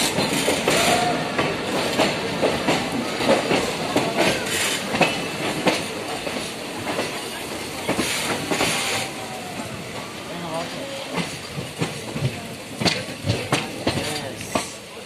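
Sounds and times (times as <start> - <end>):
train rumble: 0.0 - 15.0
train wheels clattering: 0.0 - 15.0.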